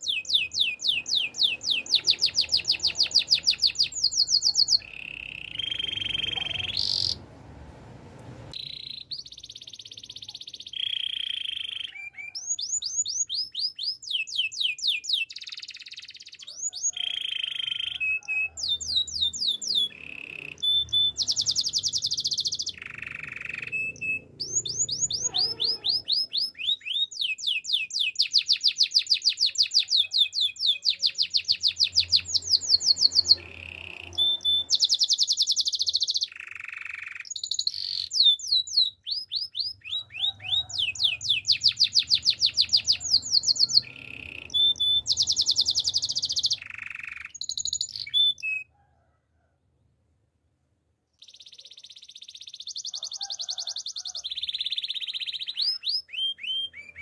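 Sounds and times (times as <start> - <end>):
canary singing: 0.0 - 48.7, 51.2 - 57.0.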